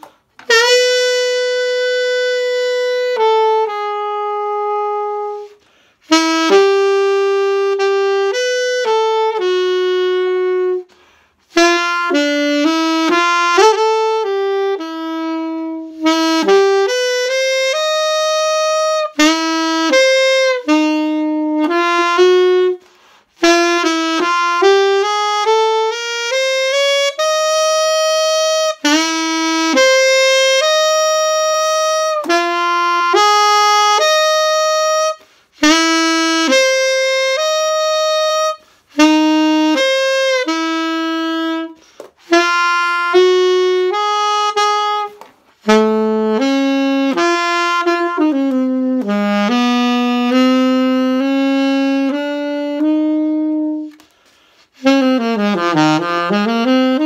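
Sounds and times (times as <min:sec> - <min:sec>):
alto saxophone slow melody: 0:00.0 - 0:57.0.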